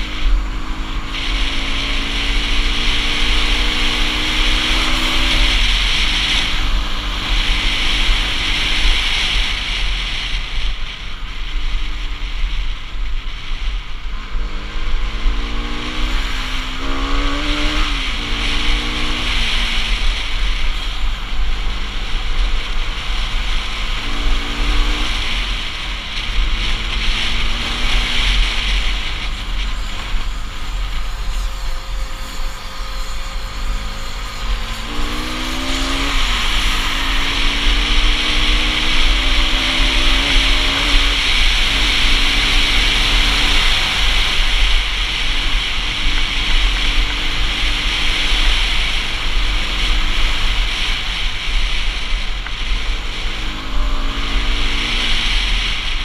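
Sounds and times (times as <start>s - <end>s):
motorcycle engine at speed: 0.0s - 56.0s
wind rush on microphone: 0.0s - 56.0s.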